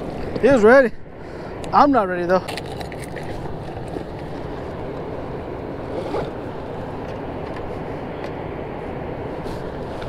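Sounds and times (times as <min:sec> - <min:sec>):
wind and water rushing: 0:00.0 - 0:10.0.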